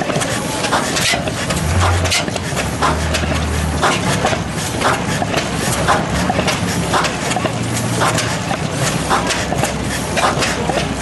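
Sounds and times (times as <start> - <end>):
gas engine running slowly: 0.0 - 11.0.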